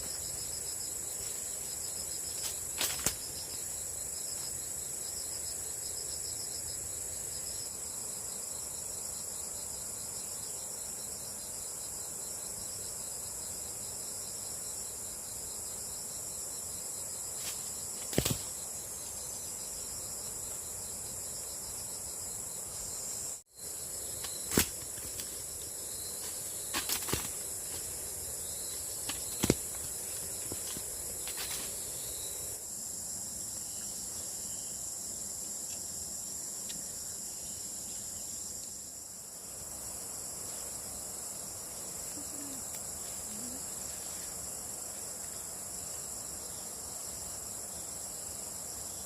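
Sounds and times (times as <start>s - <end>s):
insects chirring: 0.0s - 49.0s.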